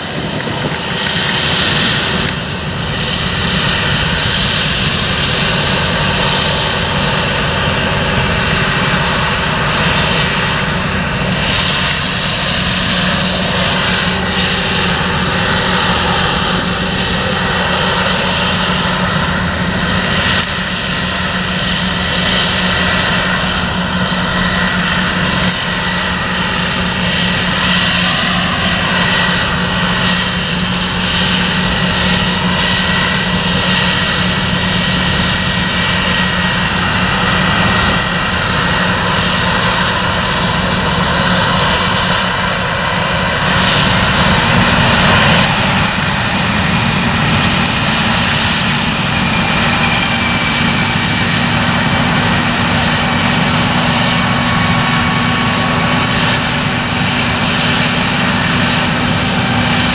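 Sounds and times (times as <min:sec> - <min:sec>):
combine harvester engine drone: 0:00.0 - 0:59.9
thin high whine: 0:00.0 - 0:59.9.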